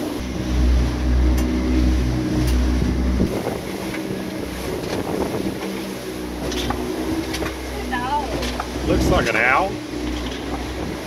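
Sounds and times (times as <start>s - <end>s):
boat engine running: 0.0s - 11.0s
wind buffeting microphone: 0.2s - 11.0s.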